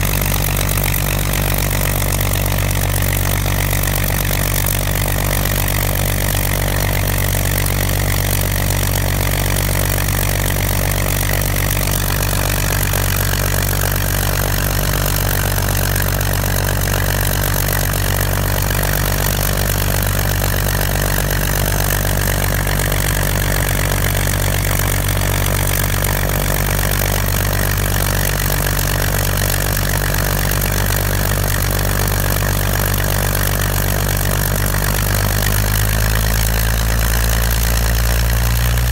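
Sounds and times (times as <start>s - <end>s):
aircraft engine idling: 0.0s - 38.9s.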